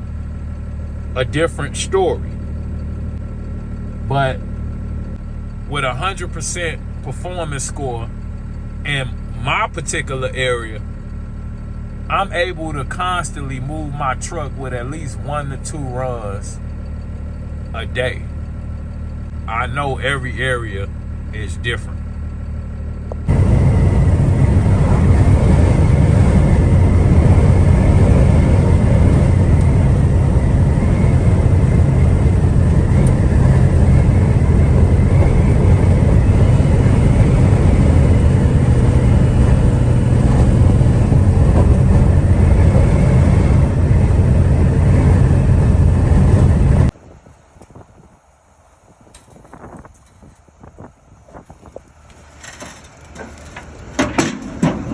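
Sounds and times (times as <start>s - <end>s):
truck engine and road rumble: 0.0s - 54.9s.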